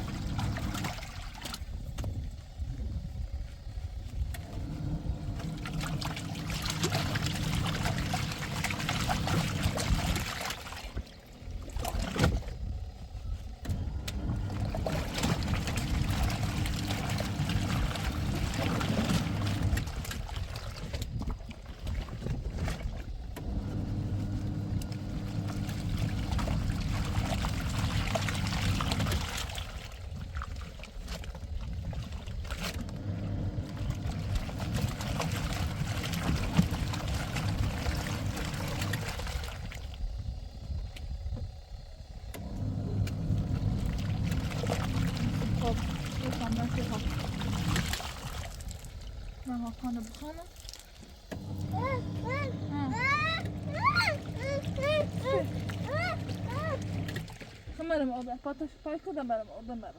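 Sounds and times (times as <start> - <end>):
washing machine motor humming: 0.0 - 59.9
water sloshing: 0.0 - 59.9.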